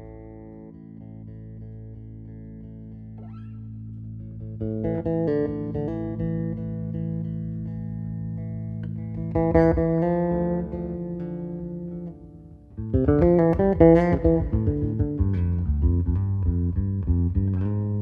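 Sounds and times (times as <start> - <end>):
electric bass playing: 0.0 - 18.0.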